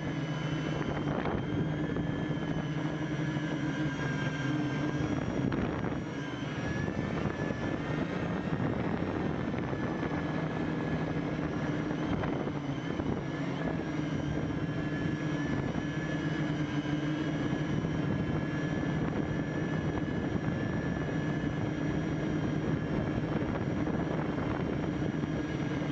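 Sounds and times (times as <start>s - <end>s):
quadcopter motors whining: 0.0s - 25.9s.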